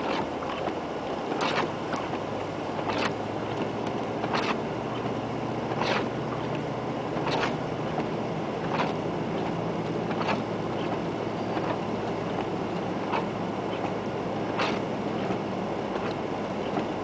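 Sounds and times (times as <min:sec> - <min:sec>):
car engine running: 0:00.0 - 0:17.0
windshield wipers swishing: 0:00.0 - 0:17.0.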